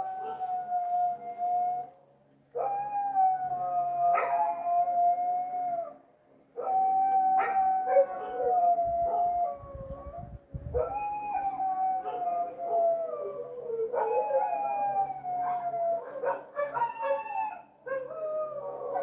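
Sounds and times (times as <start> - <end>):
dog howling: 2.6 - 6.0, 6.6 - 19.0.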